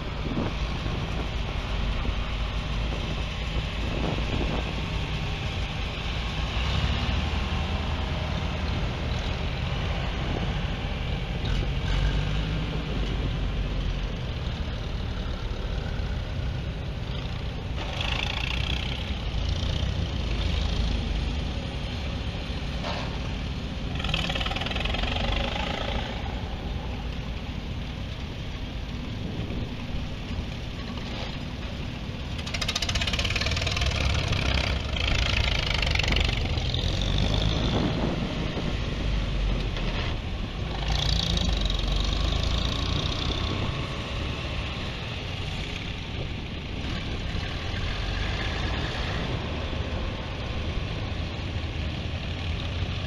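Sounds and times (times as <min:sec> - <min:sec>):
tractor engines running: 0:00.0 - 0:53.0.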